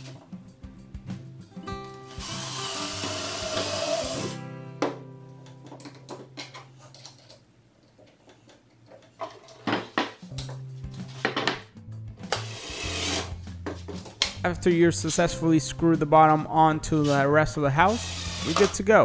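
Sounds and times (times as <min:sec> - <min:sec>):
background music: 0:00.0 - 0:06.8, 0:10.2 - 0:19.0.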